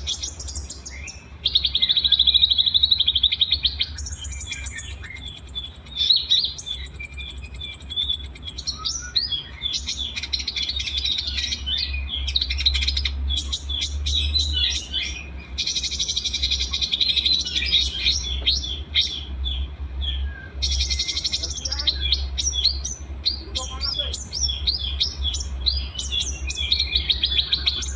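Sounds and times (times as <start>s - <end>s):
songbirds singing: 0.0s - 27.9s
steady low hum: 0.0s - 27.9s.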